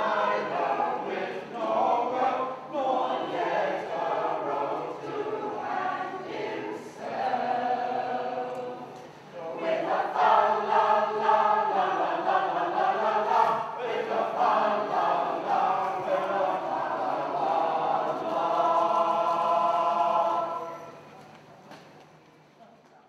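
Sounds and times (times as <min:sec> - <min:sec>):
choir singing unaccompanied: 0:00.0 - 0:21.1.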